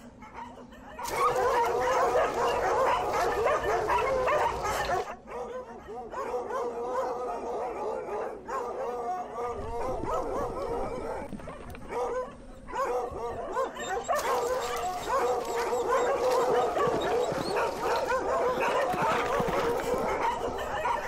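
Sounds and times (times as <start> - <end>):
dogs baying and yelping: 0.0 - 21.0.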